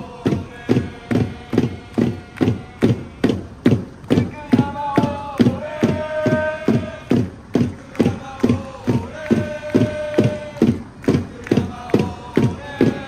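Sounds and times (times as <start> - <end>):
steady drumbeat: 0.0 - 13.0.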